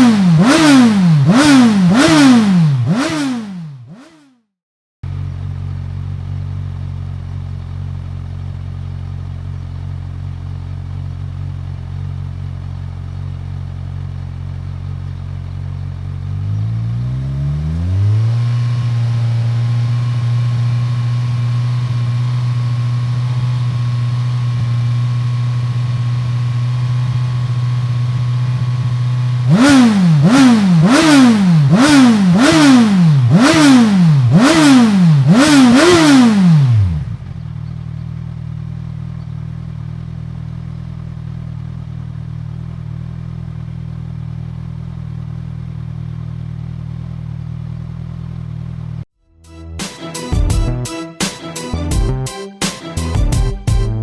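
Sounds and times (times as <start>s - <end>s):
motorcycle engine idling and revving: 0.0s - 49.1s.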